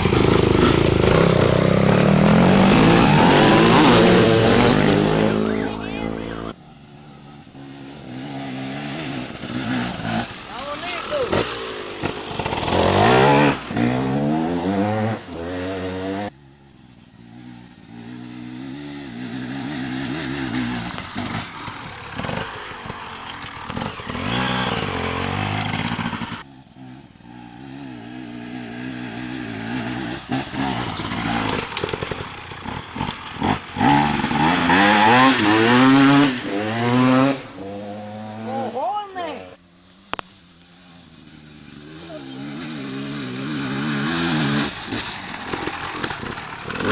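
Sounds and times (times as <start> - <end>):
dirt bike engine revving: 0.0 - 16.6, 17.2 - 46.9.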